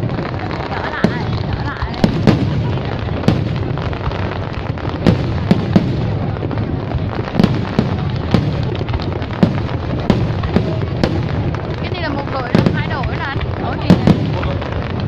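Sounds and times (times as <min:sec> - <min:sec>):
deep rumble of distant fireworks: 0:00.0 - 0:15.0
fireworks bangs and pops: 0:00.0 - 0:15.0.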